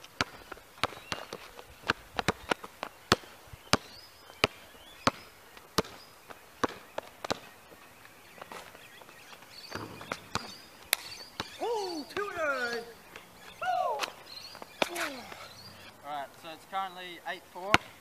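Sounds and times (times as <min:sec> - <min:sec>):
basketball bouncing on asphalt: 0:00.0 - 0:15.9, 0:17.6 - 0:18.0.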